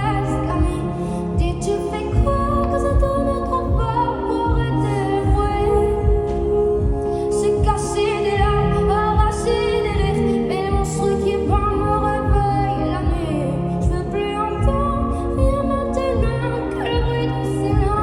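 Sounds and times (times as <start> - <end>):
instrumental accompaniment with low beat: 0.0 - 18.0.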